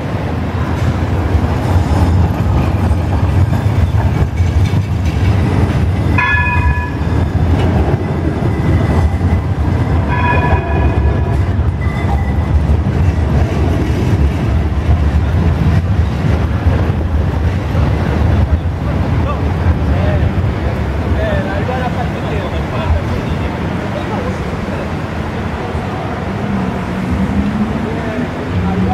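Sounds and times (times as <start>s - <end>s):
trams rumbling: 0.0s - 28.9s.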